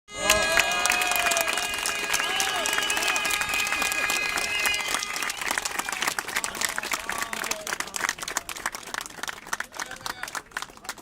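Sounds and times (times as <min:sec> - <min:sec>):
crowd applauding: 0:00.1 - 0:11.0.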